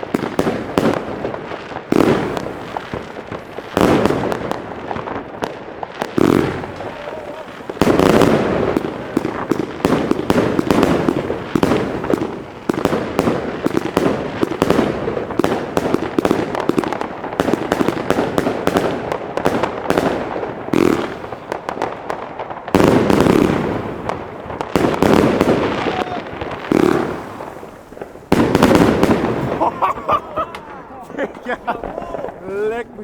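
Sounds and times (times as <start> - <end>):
fireworks banging and crackling: 0.0 - 33.0.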